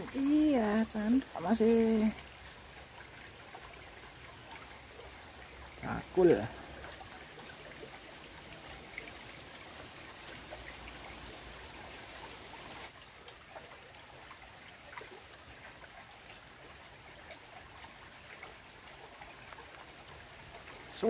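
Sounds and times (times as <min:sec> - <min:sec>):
stream trickling over stones: 0:00.0 - 0:21.0.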